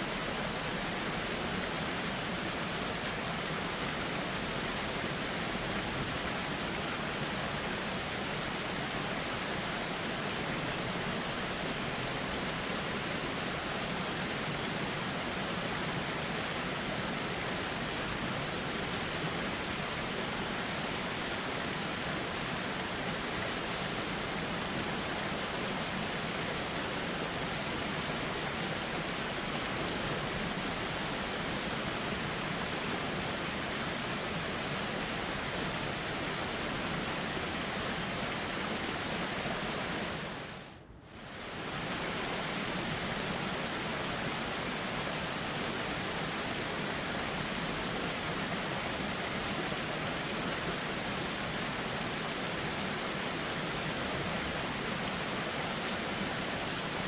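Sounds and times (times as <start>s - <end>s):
river flowing: 0.0s - 57.0s.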